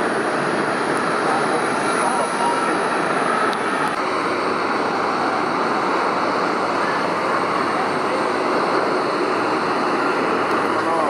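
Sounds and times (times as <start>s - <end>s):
jet engines landing: 0.0s - 11.0s.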